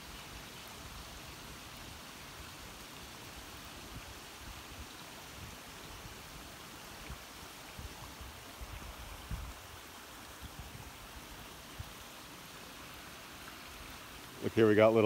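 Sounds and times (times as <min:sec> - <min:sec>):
creek water trickling: 0:00.0 - 0:15.0.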